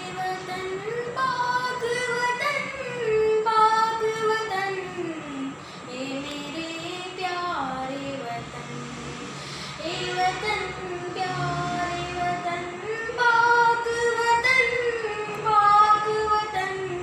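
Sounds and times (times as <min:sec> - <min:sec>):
boy singing: 0:00.0 - 0:08.5, 0:09.8 - 0:17.0.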